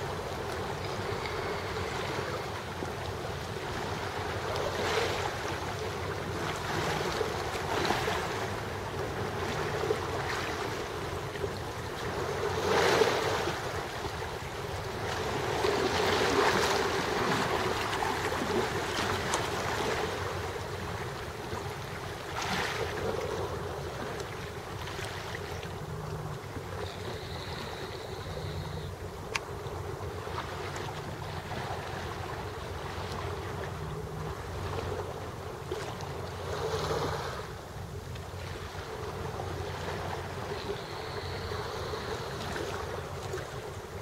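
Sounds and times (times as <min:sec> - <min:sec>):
small waves lapping against rocks: 0:00.0 - 0:44.0.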